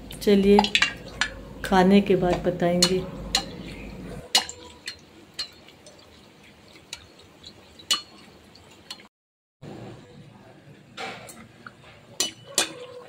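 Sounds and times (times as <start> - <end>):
oil sizzling faintly: 0.0 - 13.0.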